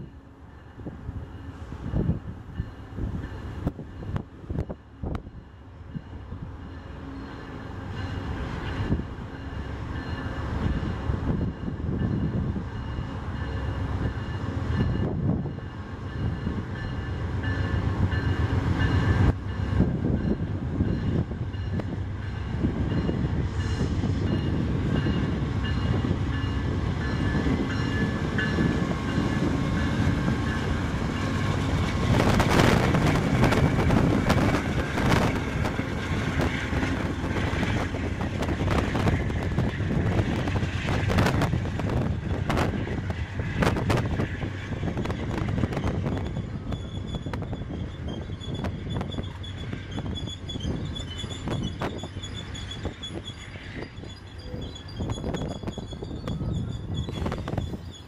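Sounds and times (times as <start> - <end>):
diesel locomotive engine rumble: 0.0 - 58.0
train rolling on rails: 0.0 - 58.0.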